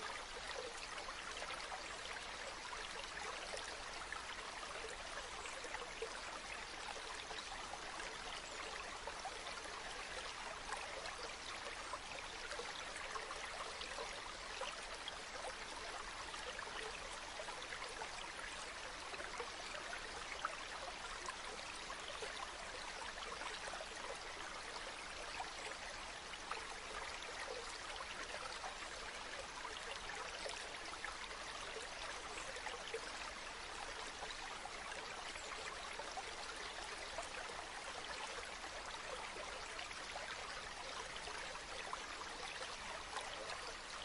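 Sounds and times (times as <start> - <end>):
stream flowing: 0.0 - 44.0.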